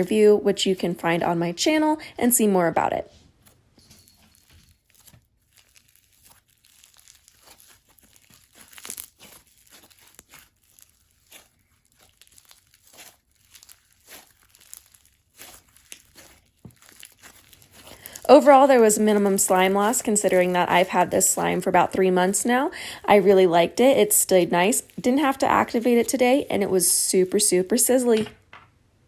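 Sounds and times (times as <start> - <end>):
slime crackling and popping: 4.3 - 28.3.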